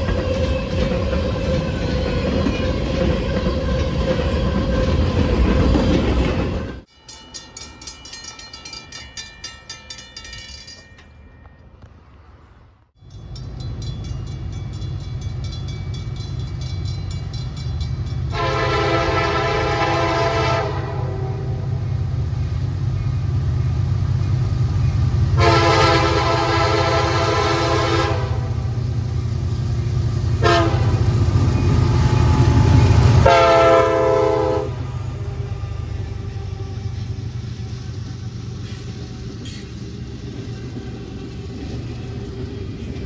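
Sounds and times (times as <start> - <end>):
diesel locomotive rumble: 0.0 - 6.9, 11.8 - 43.0
train passing: 0.0 - 43.0.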